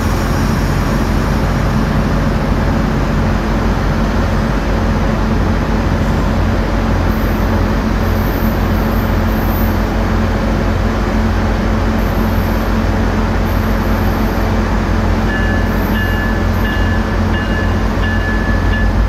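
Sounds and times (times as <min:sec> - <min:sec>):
diesel locomotive engine hum: 0:00.0 - 0:19.0.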